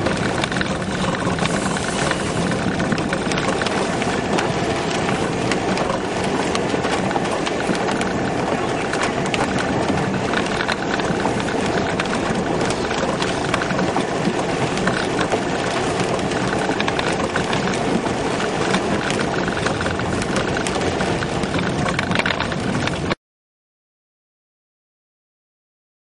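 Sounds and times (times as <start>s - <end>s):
car engine and tyre noise: 0.0s - 23.2s
knocks and rattles: 0.0s - 23.2s.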